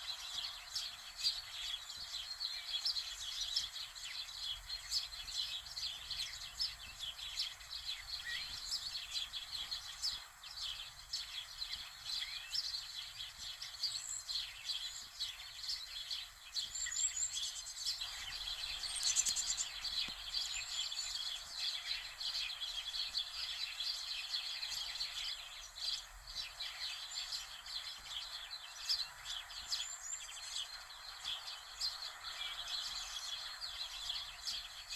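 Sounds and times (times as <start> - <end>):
small birds chirping: 0.0 - 34.9
steady background hiss: 0.0 - 34.9.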